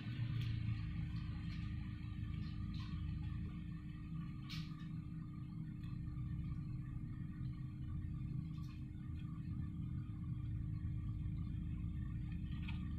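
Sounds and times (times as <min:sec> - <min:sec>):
constant hum: 0:00.0 - 0:12.9.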